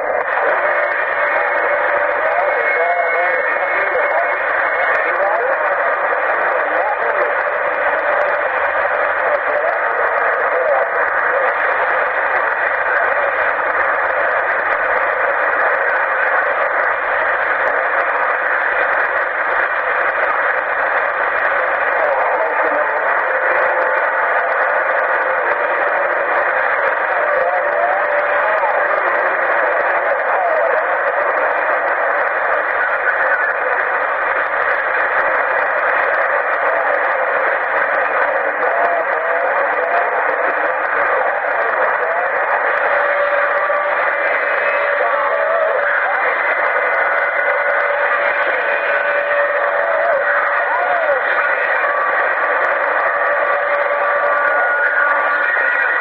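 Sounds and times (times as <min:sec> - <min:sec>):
radio static hiss: 0:00.0 - 0:56.0.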